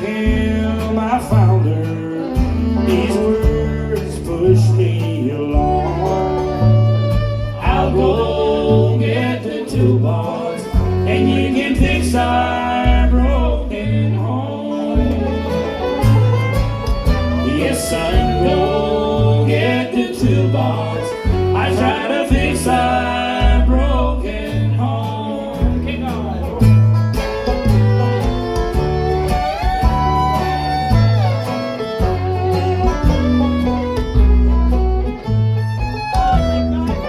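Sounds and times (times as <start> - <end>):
bass alternating notes: 0.0 - 37.0
fiddle: 0.0 - 37.0
guitar: 0.0 - 37.0.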